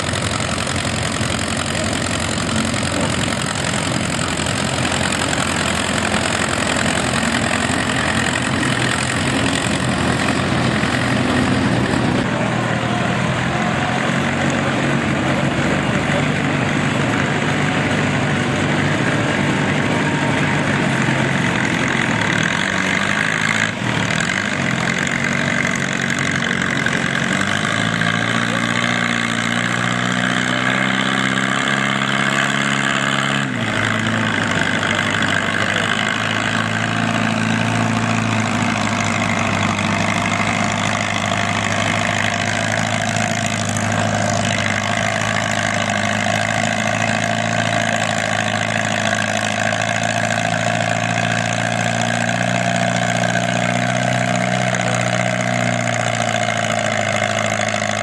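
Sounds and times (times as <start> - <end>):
tractor engine running hard: 0.0 - 58.0.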